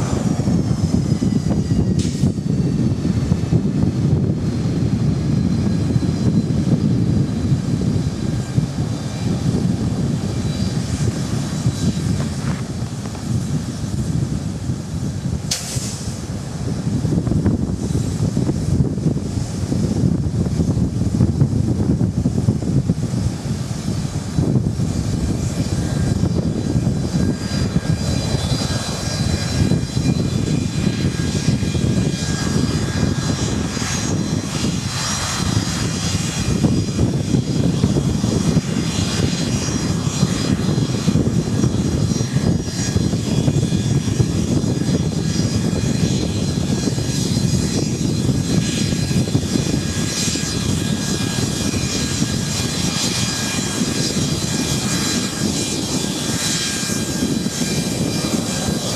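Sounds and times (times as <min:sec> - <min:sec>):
high engine whine: 0:00.0 - 0:58.9
jet engine rumble: 0:00.0 - 0:58.9.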